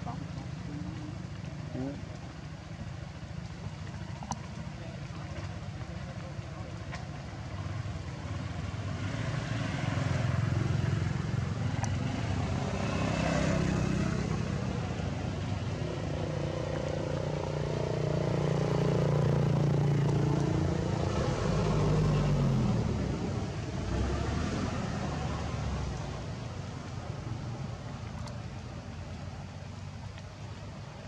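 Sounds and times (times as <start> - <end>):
vehicle engines: 0.0 - 31.0.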